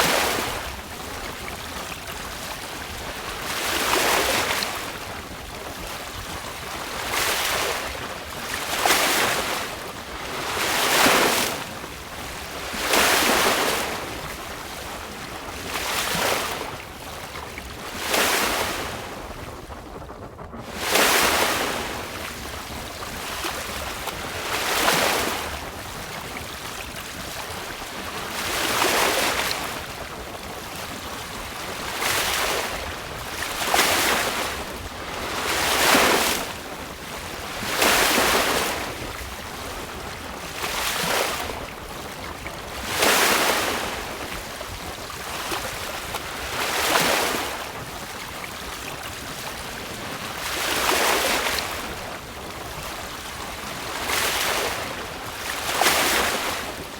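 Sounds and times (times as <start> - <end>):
waves splashing against hull: 0.0 - 56.9
wind rumble on microphone: 0.0 - 56.9.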